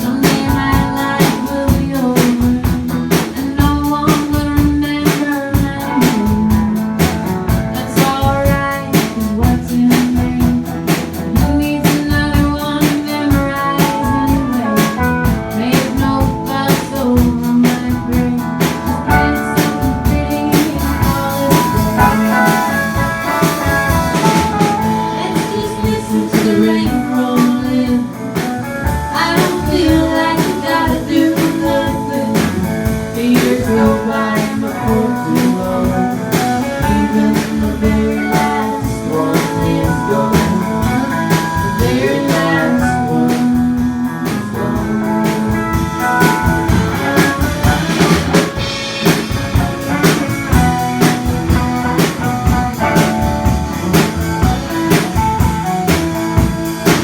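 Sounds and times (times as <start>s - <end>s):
drum kit beat: 0.0s - 57.0s
electric guitar: 0.0s - 57.0s
person singing: 0.0s - 57.0s.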